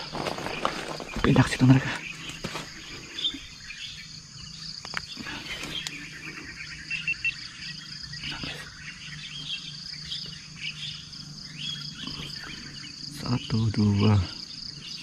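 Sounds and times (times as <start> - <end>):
birds chirping: 0.0 - 15.0
high-pitched insect drone: 0.0 - 15.0.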